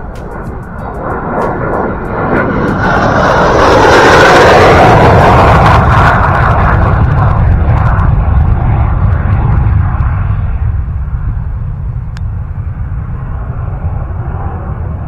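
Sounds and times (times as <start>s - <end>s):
jet aircraft low pass: 0.0s - 15.0s.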